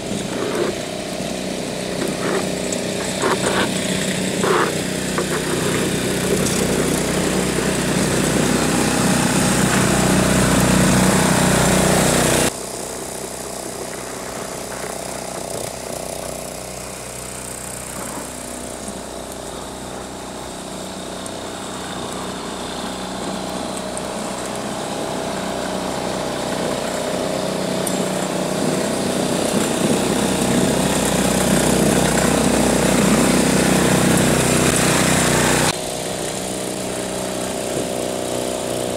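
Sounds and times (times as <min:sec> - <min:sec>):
small tractor engine running: 0:00.0 - 0:38.9.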